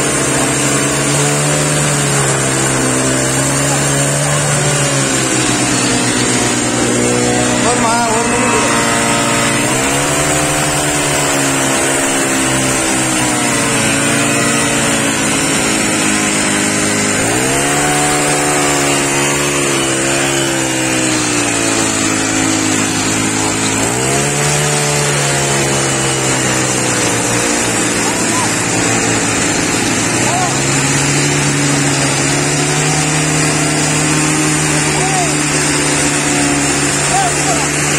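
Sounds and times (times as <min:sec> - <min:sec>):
small petrol engine revving: 0:00.0 - 0:37.9.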